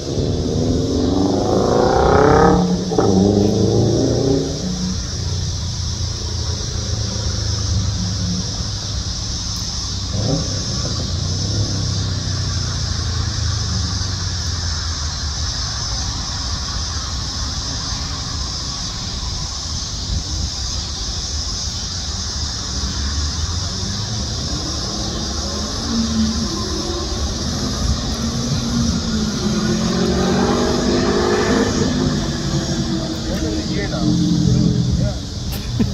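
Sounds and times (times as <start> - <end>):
engine rumble: 0.0 - 35.9
steady high hiss: 0.0 - 35.9.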